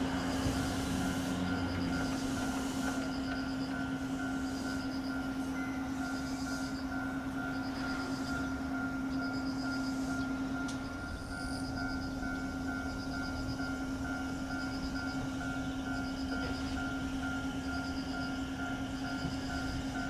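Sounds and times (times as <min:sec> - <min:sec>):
electric train humming: 0:00.0 - 0:20.0.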